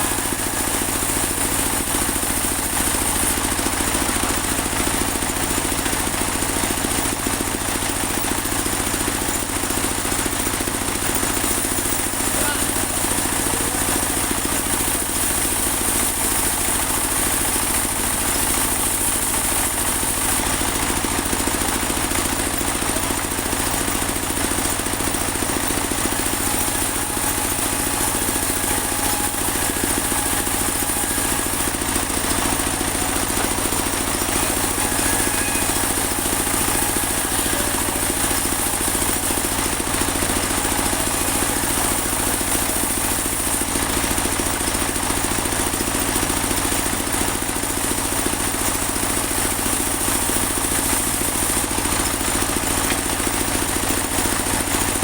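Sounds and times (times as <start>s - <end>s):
band sawmill engine running: 0.0s - 55.0s.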